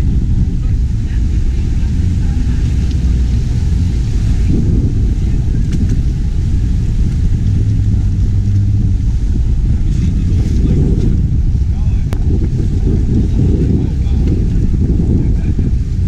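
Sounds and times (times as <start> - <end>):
speedboat engines rumbling: 0.0 - 16.0.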